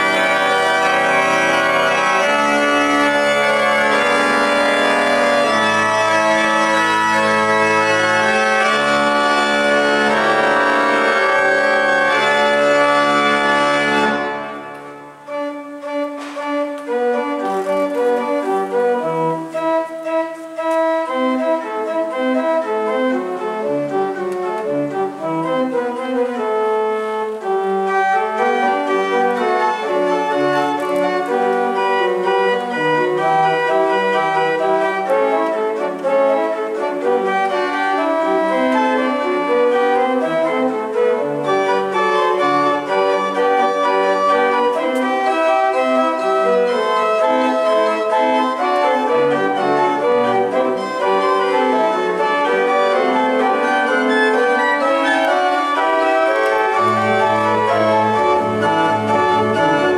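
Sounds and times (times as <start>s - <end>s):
organ played briskly: 0.0s - 59.9s.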